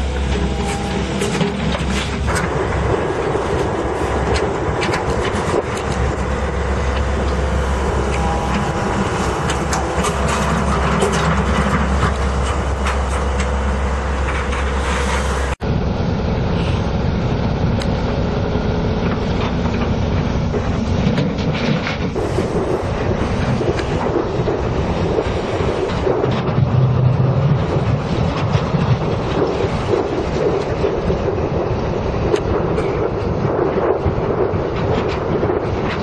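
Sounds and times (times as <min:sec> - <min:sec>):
excavator bucket and tracks clanking: 0:00.0 - 0:15.6, 0:17.5 - 0:36.0
excavator diesel engine under load: 0:00.0 - 0:36.0.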